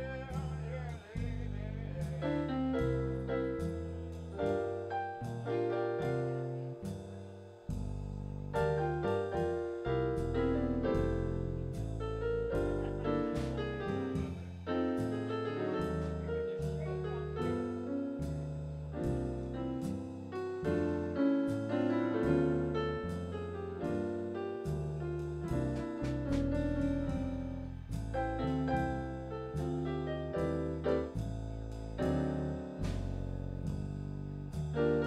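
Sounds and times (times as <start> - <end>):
jazz piano on electronic keyboard: 0.0 - 35.0.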